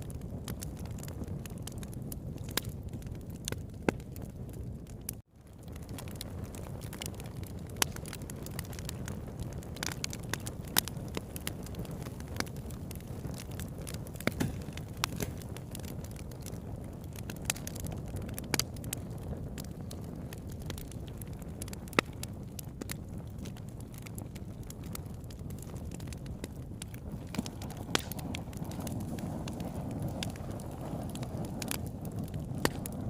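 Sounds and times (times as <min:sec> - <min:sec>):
burning wood crackling and popping: 0:00.0 - 0:33.0
low rumble of flames: 0:00.0 - 0:33.0.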